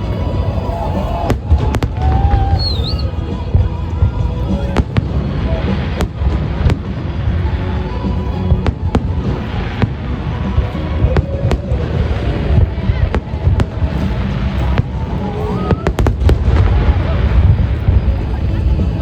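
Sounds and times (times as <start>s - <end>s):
low rumble of explosions: 0.0s - 19.0s.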